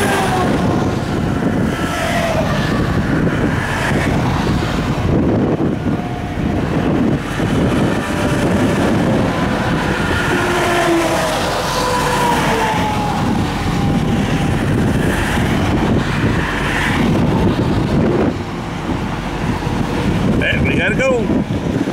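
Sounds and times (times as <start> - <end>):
tyres hissing on wet road: 0.0 - 20.4
highway traffic rumbling: 0.0 - 21.9.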